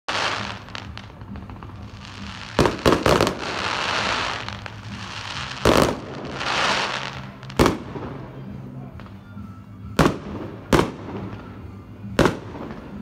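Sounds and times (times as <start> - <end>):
firework bangs: 0.1 - 8.4, 10.0 - 13.0
crackling hiss of fireworks: 0.1 - 13.0.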